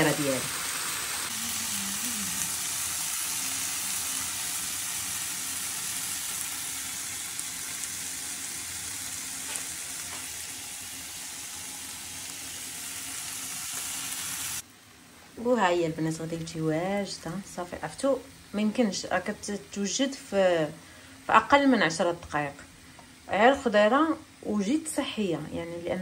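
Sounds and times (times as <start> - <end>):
food sizzling in pans: 0.0 - 26.0.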